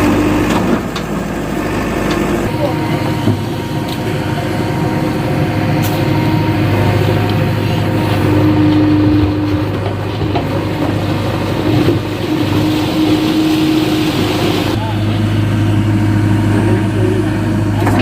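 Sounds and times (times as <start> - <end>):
diesel engine running under work: 0.0 - 18.0.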